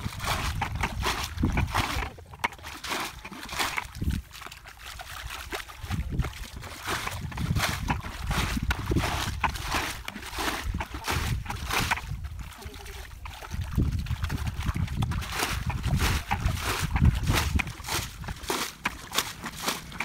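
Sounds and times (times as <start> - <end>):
bucket scooping water: 0.0 - 20.0
feet sloshing through mud: 0.0 - 20.0
muddy water splashing and pouring: 0.0 - 20.0.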